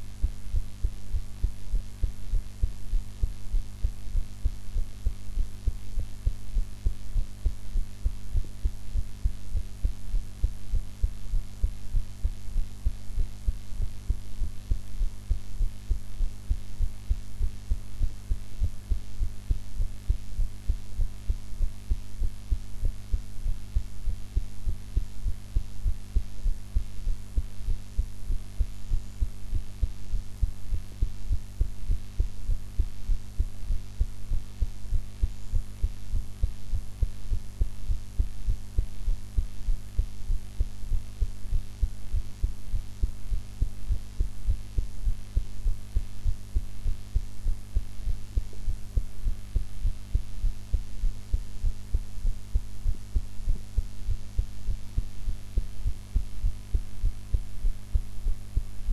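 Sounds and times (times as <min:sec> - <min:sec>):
heart beating: 0:00.0 - 0:58.9
steady low hum: 0:00.0 - 0:58.9.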